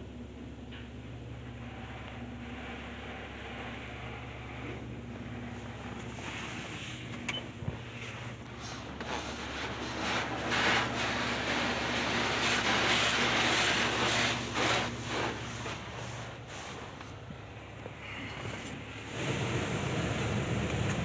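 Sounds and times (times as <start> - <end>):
steady low hum: 0.0 - 21.0
car wash water rushing: 1.6 - 17.5, 18.6 - 21.0.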